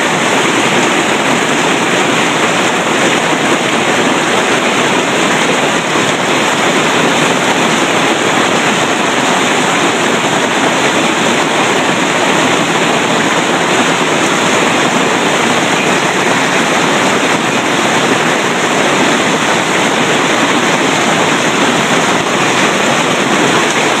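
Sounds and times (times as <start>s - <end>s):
hail falling: 0.0s - 24.0s.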